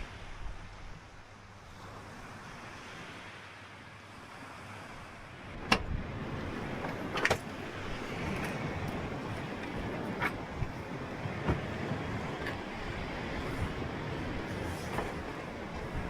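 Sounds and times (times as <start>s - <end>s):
surf: 0.0s - 16.0s
wind: 0.0s - 16.0s.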